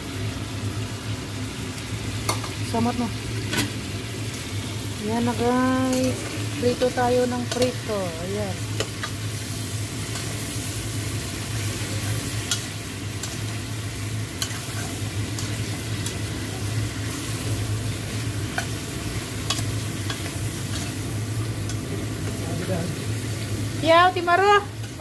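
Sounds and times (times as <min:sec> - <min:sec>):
food sizzling in a pot: 0:00.0 - 0:25.0.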